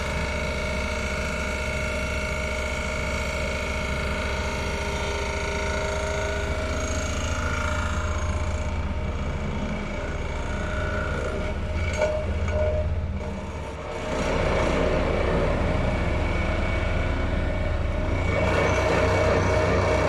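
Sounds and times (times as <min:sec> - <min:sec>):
pile driving machinery running: 0:00.0 - 0:20.0.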